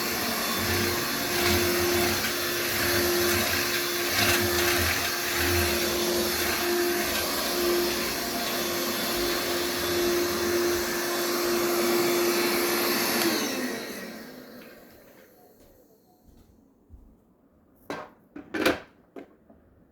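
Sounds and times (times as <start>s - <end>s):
stick vacuum cleaner running: 0.0s - 16.2s.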